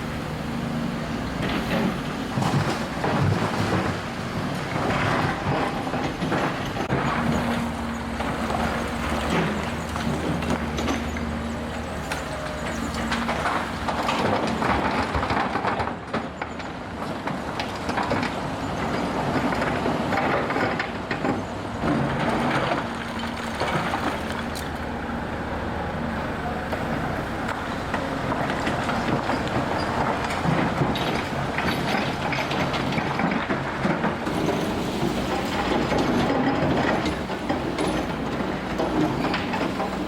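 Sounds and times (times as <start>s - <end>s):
heavy machine engine running: 0.0s - 40.0s.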